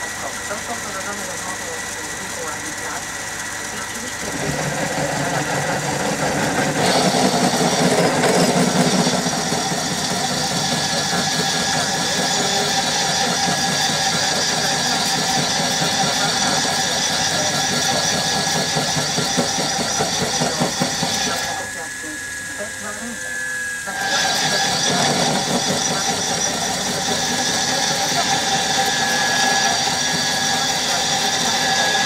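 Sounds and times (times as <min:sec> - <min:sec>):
high-pitched whine: 0:00.0 - 0:32.0
lathe motor running: 0:00.0 - 0:32.0.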